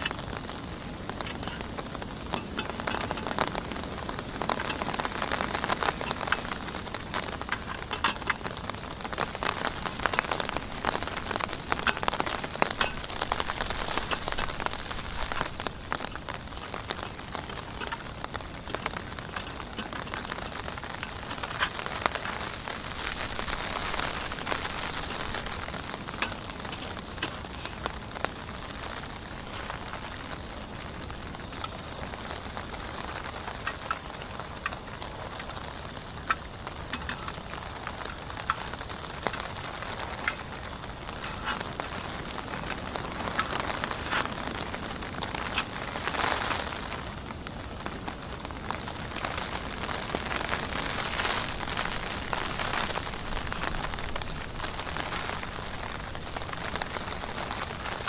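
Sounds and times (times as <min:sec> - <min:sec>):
heavy rain falling: 0:00.0 - 0:58.0
raindrops pattering on surface: 0:00.0 - 0:58.0.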